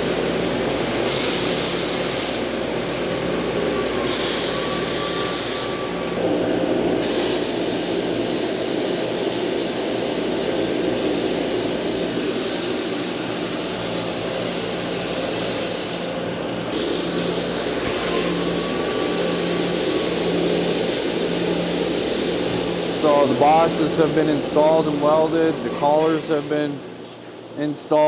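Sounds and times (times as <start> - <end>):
low electrical hum: 0.0 - 28.0
workshop machine roar: 0.0 - 28.0.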